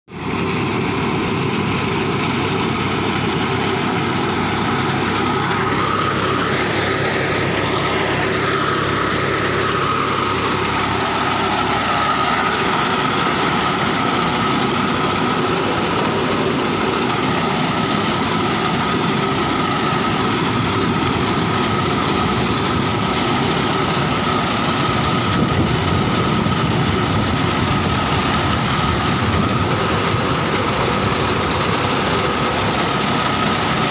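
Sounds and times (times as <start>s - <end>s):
tractor engine running under load: 0.1s - 33.9s
steady high whine: 0.2s - 33.9s.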